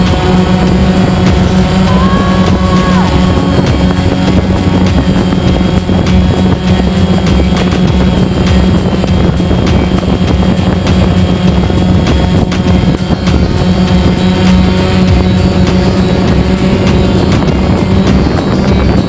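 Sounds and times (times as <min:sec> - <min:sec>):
drone motors buzzing: 0:00.0 - 0:19.0.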